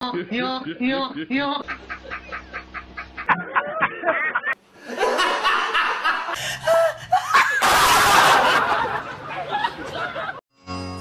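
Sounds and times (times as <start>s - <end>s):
man laughing: 0.0s - 10.4s
woman laughing: 0.0s - 10.4s.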